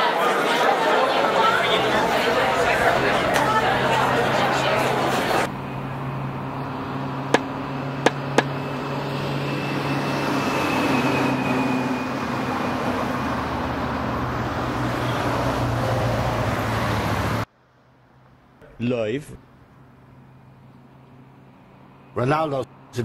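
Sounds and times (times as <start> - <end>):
street traffic rushing: 0.0 - 23.0.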